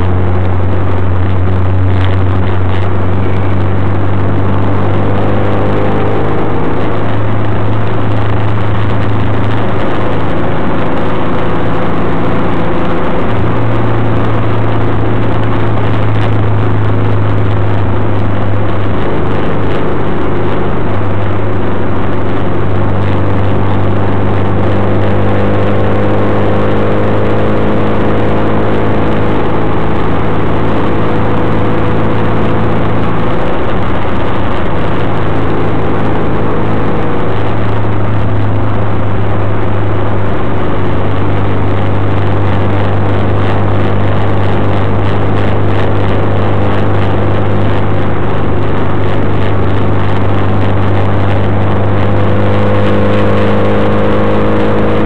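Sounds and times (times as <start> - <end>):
car engine cruising: 0.0 - 55.0
road noise: 0.0 - 55.0.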